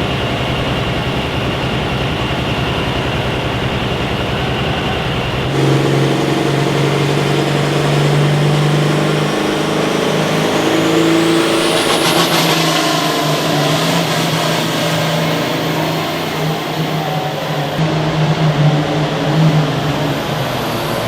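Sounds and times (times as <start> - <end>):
high whine rising in pitch: 0.0 - 21.0
vehicle engine running hard: 0.0 - 21.0.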